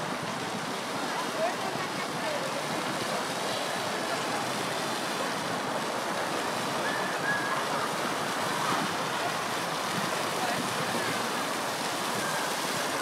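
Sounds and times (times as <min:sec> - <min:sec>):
fountain jets splashing: 0:00.0 - 0:13.0.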